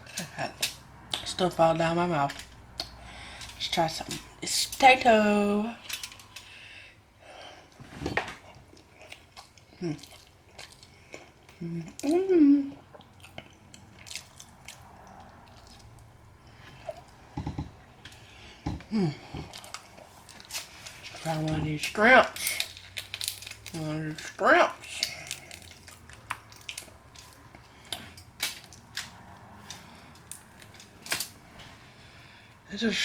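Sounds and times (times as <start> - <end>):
person chewing food: 2.3 - 4.4, 5.8 - 32.6.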